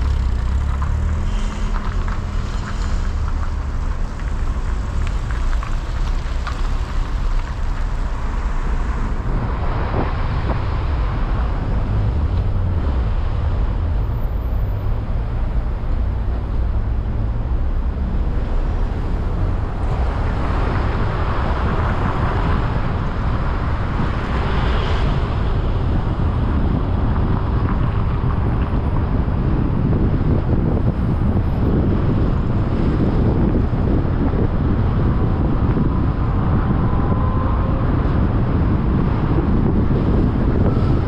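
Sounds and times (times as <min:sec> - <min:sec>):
road traffic noise: 0:00.0 - 0:41.0
wind buffeting microphone: 0:00.0 - 0:41.0.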